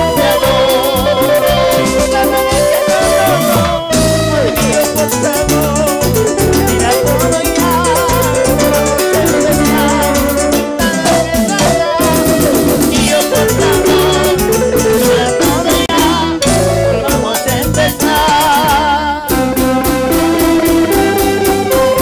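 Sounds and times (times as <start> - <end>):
band playing cumbia: 0.0 - 22.0
group singing: 0.0 - 22.0.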